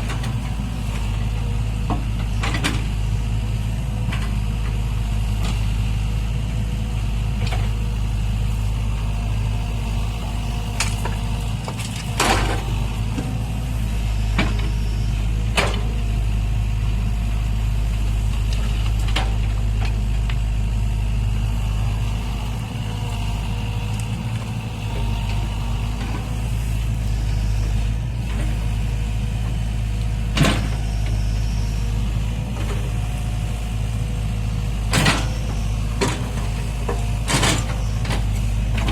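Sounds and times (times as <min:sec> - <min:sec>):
diesel engine rumbling: 0:00.0 - 0:38.9.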